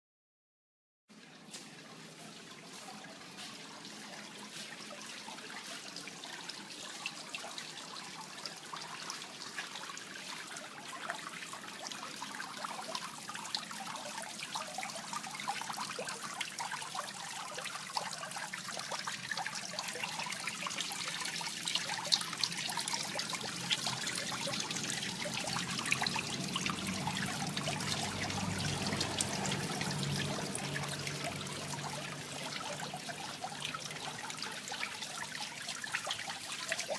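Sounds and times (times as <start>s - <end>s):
water splashing into pond: 1.1s - 36.9s.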